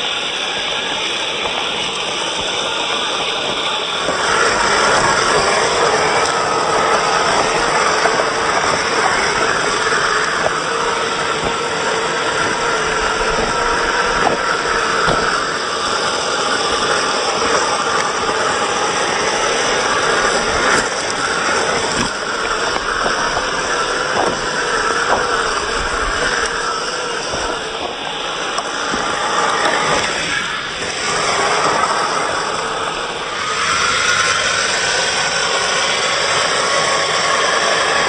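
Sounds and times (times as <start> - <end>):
stones clicking under tyres: 0.0 - 38.0
toy car electric motor whining: 0.0 - 38.0.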